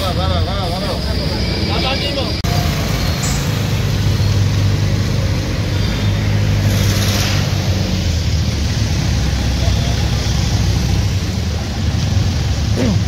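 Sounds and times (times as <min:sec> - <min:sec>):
motorcycle engines droning: 0:00.0 - 0:13.0.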